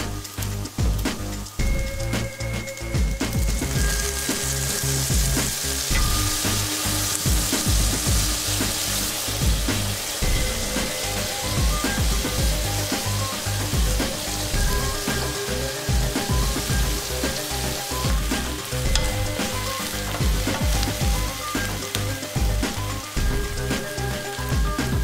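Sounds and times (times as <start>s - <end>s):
sauce sizzling in a frying pan: 0.0s - 25.0s.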